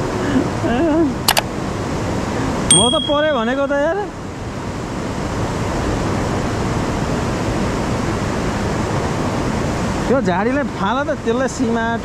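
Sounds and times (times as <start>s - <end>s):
river rushing: 1.6s - 12.0s.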